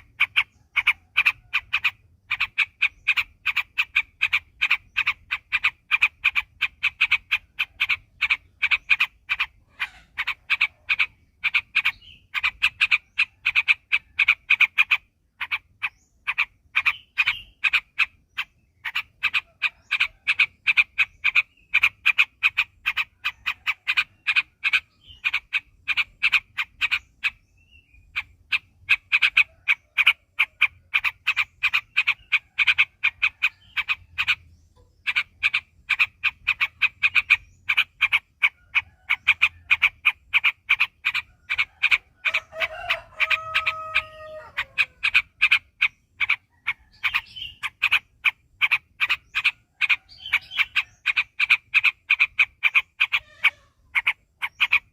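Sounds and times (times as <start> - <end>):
bird chirping in rolling runs: 0.0 - 42.5, 43.3 - 54.9.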